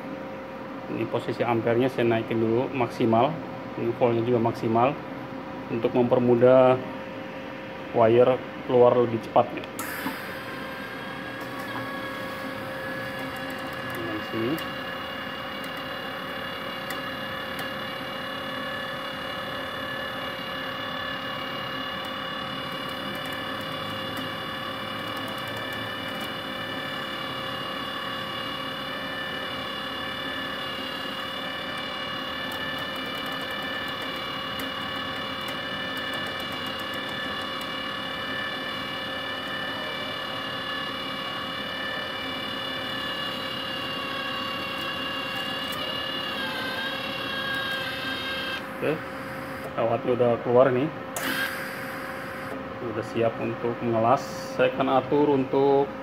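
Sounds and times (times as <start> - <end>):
wire-feed motor whine: 5.7 - 56.0.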